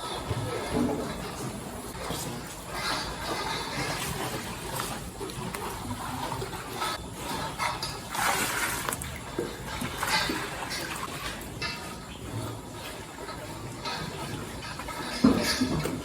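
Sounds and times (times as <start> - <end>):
cows munching and slurping: 0.0 - 16.0.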